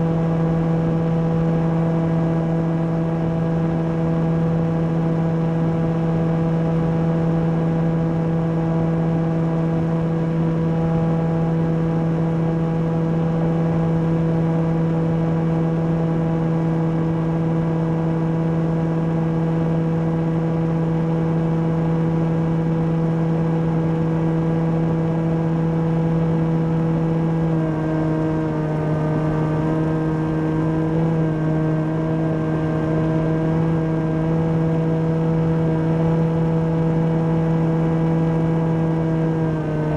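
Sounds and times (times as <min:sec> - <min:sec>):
propeller rush: 0:00.0 - 0:39.9.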